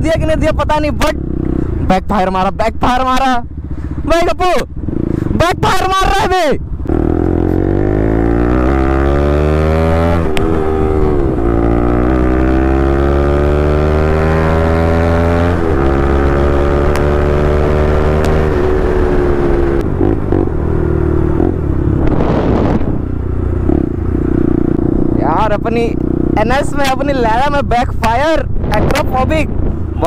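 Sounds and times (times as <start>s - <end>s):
motorcycle engine shifting gears: 1.0s - 1.9s, 6.6s - 30.0s.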